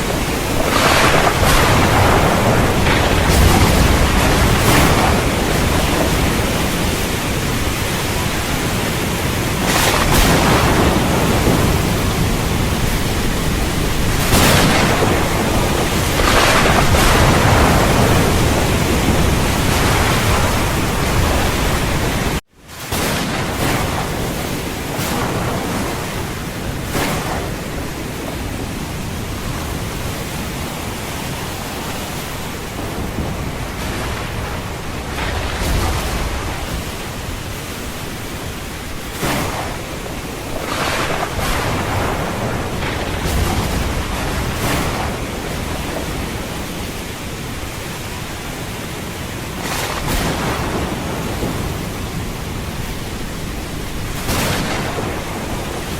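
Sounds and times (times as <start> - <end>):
thunder: 0.0 - 48.4, 49.6 - 55.9
heavy rain: 0.0 - 55.9.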